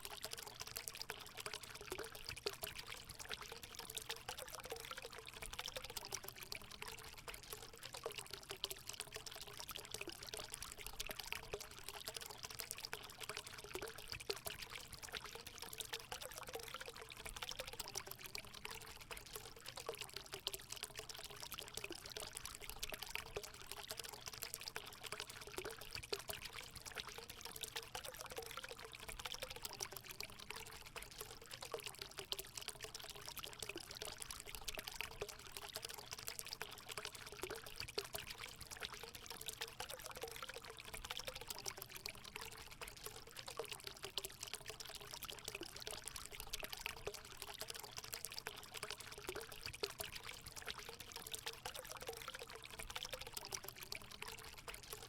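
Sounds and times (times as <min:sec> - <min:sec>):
water pouring into a pool: 0:00.0 - 0:55.0.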